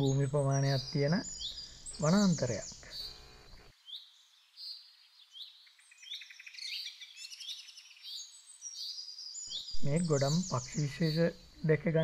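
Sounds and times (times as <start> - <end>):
birds whistling and chirping: 0.0 - 3.3, 3.9 - 12.0.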